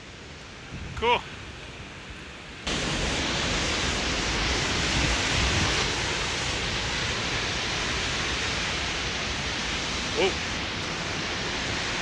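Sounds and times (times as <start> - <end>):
waterfall roaring: 0.1 - 12.0.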